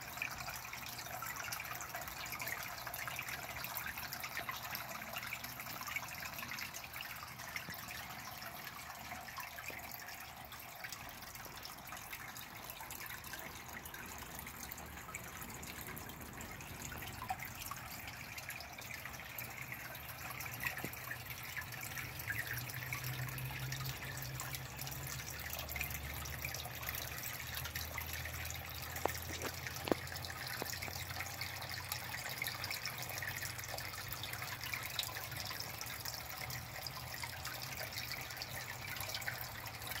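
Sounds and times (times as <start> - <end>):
water trickling into pond: 0.0 - 40.0.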